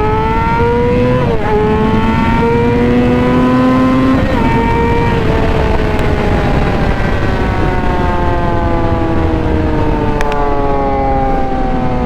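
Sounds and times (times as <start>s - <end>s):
motorcycle engine at high revs: 0.0s - 11.4s
wind on microphone: 0.0s - 12.0s.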